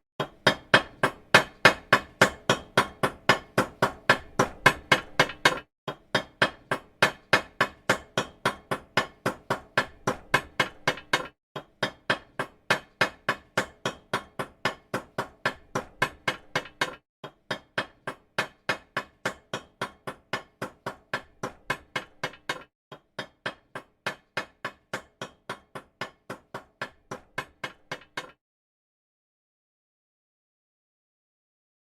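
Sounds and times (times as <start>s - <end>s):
metal hammer tapping: 0.2s - 28.3s.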